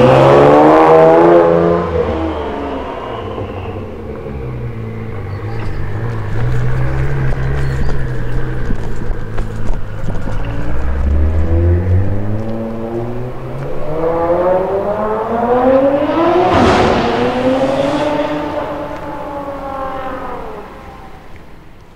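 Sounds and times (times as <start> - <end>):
car engine accelerating past: 0.0 - 9.2, 10.2 - 21.3.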